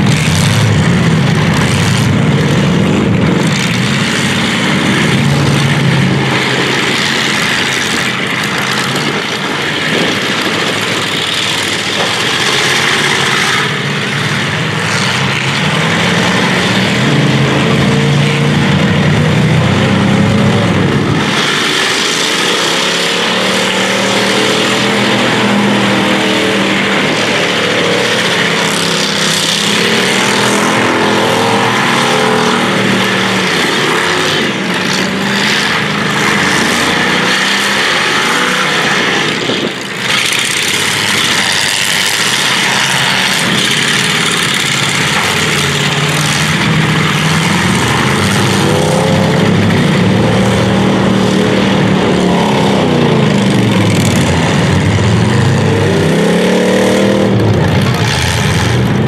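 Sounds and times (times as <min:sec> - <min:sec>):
unmuffled car engines revving: 0:00.0 - 0:59.0.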